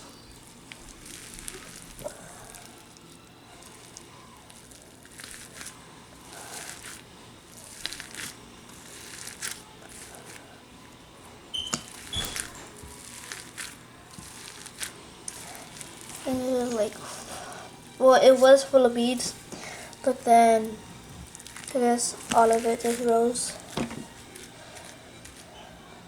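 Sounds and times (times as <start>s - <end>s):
slime crackling when squished: 0.0s - 25.5s.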